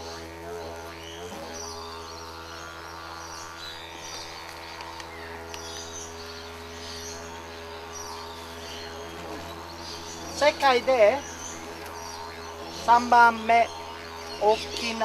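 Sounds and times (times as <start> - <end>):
didgeridoo drone: 0.0 - 15.0.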